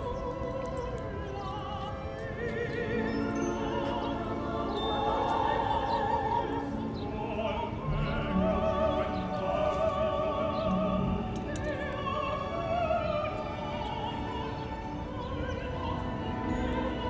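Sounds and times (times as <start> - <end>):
classical instrumental accompaniment: 0.0 - 17.0
operatic singing: 0.0 - 17.0.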